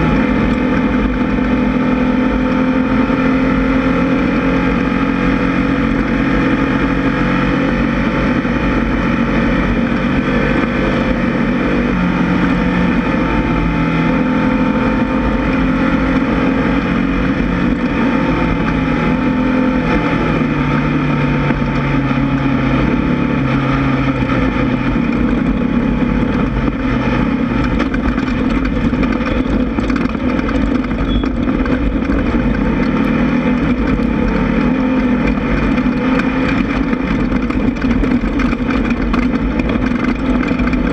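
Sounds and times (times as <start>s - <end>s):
race buggy engine running hard: 0.0s - 40.9s.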